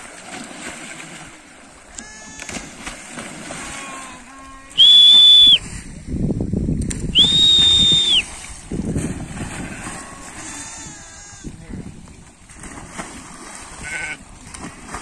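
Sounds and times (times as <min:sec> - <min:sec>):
sheep splashing into water: 0:00.0 - 0:04.8, 0:06.8 - 0:15.0.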